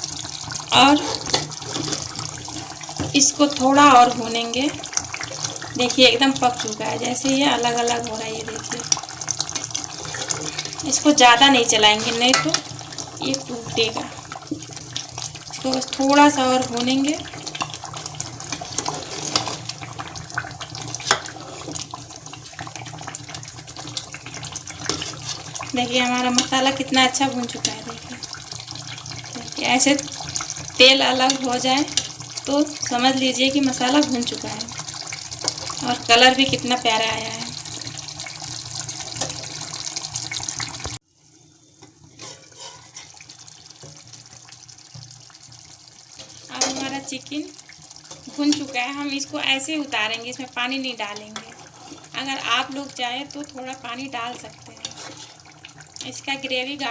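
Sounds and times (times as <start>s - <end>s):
food sizzling in hot oil: 0.0s - 56.9s.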